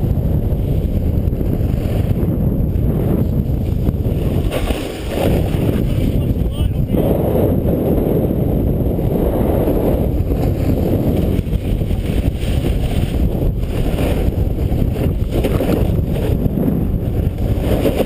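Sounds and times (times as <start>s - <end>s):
snowboard running over snow: 0.0s - 6.2s, 7.2s - 18.0s
wind buffeting microphone: 0.0s - 18.0s.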